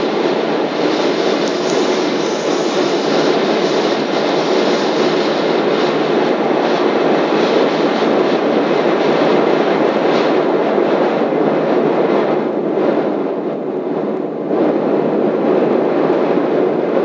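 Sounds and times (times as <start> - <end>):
airplane cabin engine noise: 0.0 - 17.0.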